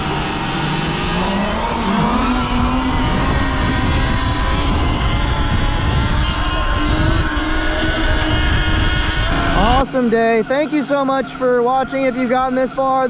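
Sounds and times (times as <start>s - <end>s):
low rumble: 0.0s - 10.5s
electric motor whine: 0.0s - 13.0s.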